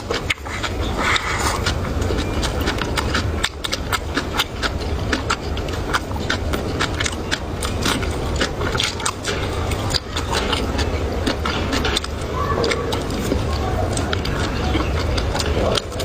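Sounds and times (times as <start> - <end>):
steady low hum: 0.0 - 16.0
wet chewing mouth sounds: 0.0 - 16.0.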